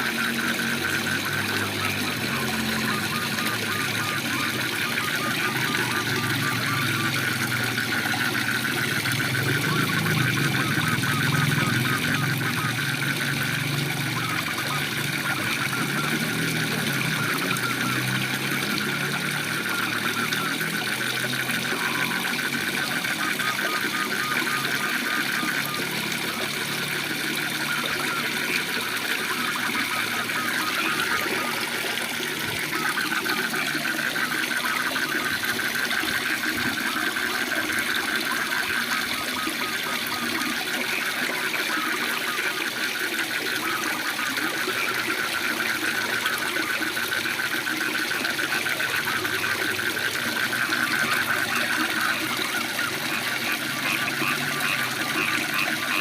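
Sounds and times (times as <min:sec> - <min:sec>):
frogs trilling: 0:00.0 - 0:56.0.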